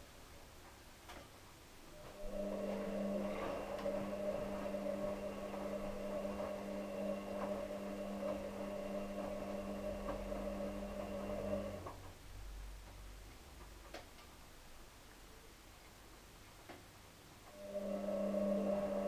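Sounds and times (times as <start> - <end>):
appliance electrical hum: 0.0 - 19.0.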